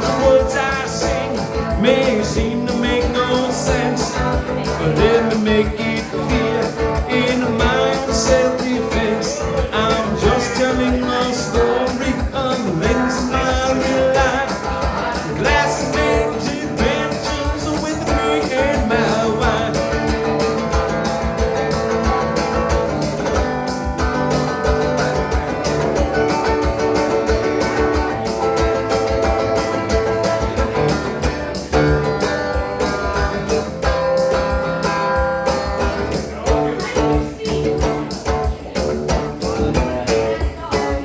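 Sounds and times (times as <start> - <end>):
guitar: 0.0 - 41.0
steady drum beat: 0.0 - 41.0.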